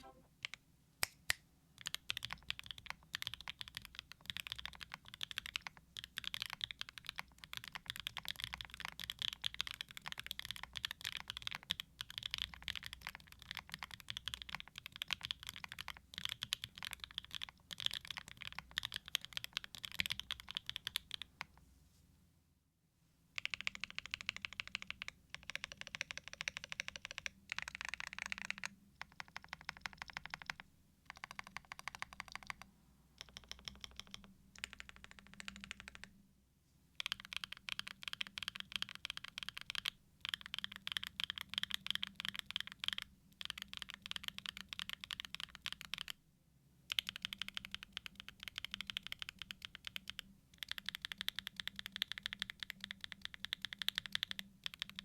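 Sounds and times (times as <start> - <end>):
fast typing on mechanical keyboard: 1.8 - 21.5, 23.4 - 32.6, 33.2 - 36.1, 37.0 - 46.2, 46.9 - 55.0.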